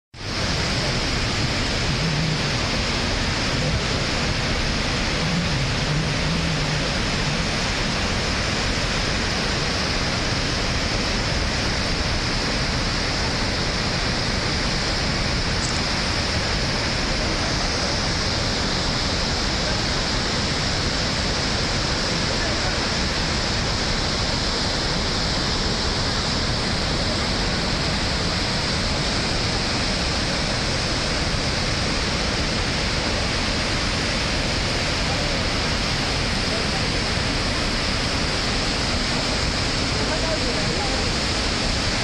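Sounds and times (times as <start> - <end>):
waterfall and rapids rushing: 0.2 - 42.0.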